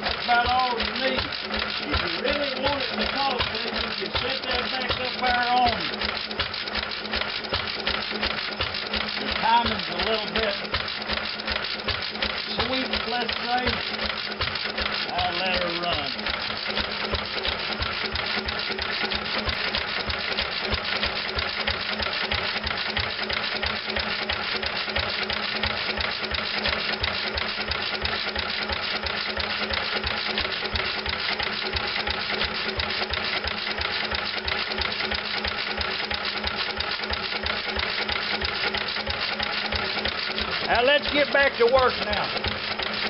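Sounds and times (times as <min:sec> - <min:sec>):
flywheel engine running: 0:00.0 - 0:43.0.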